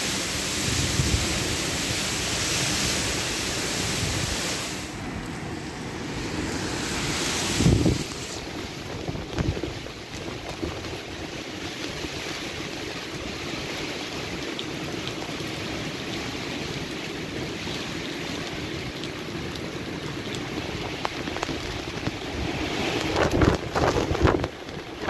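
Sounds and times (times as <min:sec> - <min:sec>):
wind gusts: 0:00.0 - 0:14.7, 0:15.6 - 0:25.0
heavy rain downpour: 0:00.0 - 0:25.0.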